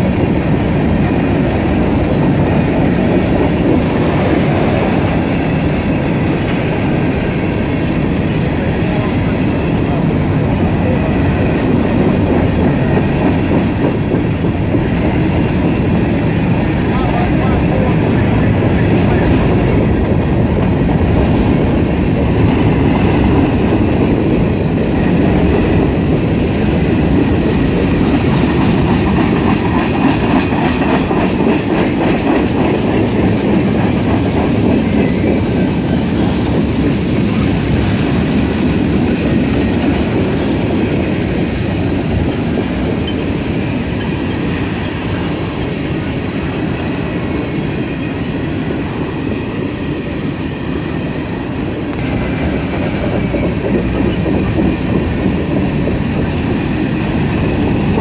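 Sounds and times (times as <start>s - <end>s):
clickety-clack over rail joints: 0.0s - 58.0s
freight train wheels rumbling: 0.0s - 58.0s.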